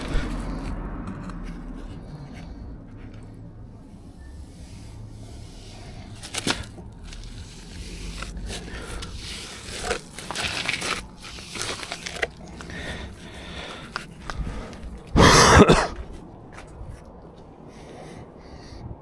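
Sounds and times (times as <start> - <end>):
scraping and crunching: 0.0 - 17.6.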